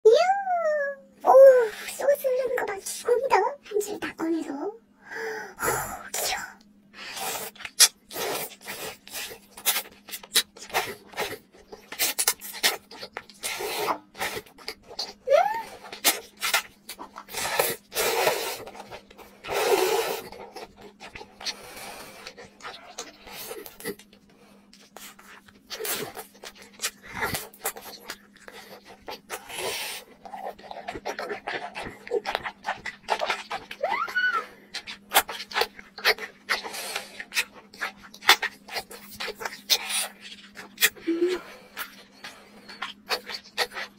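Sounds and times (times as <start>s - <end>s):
wet slurping and chewing: 6.2s - 43.9s.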